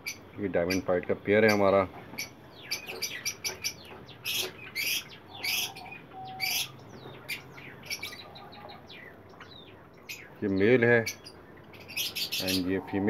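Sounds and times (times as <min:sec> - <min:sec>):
cage birds chirping: 0:00.0 - 0:13.0
harsh bird calls: 0:00.0 - 0:13.0.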